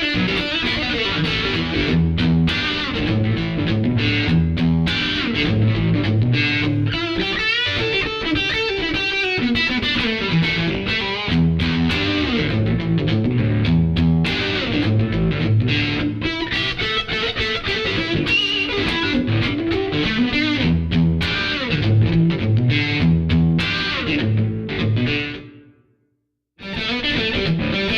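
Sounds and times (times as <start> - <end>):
electric guitar playing blues: 0.0 - 25.7, 26.6 - 27.9.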